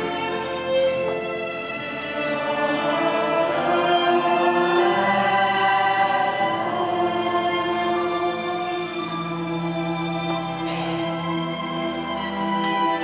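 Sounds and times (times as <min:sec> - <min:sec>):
orchestra playing: 0:00.0 - 0:13.0
strings holding sustained chords: 0:00.0 - 0:13.0.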